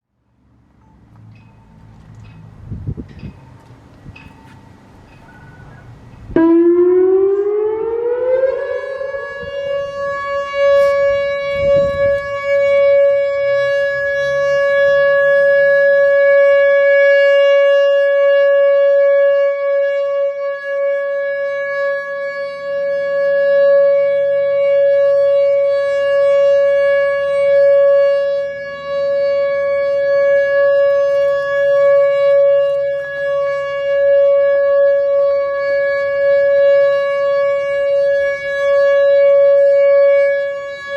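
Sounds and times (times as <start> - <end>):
electronic warning siren: 3.2 - 40.9.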